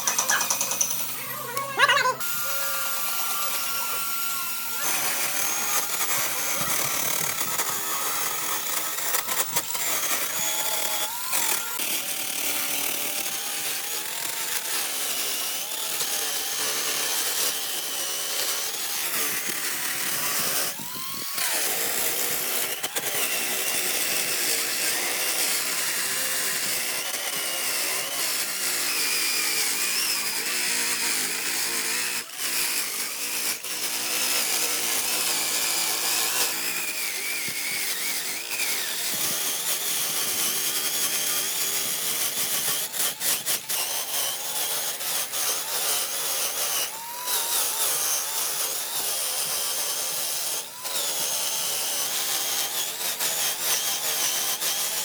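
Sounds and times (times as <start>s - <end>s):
power tool cutting wood: 0.0s - 55.0s.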